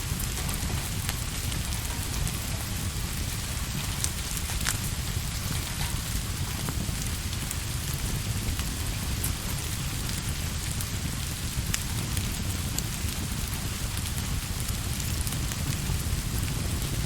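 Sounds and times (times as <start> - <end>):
deep rumble: 0.0 - 17.0
steady rain falling: 0.0 - 17.0.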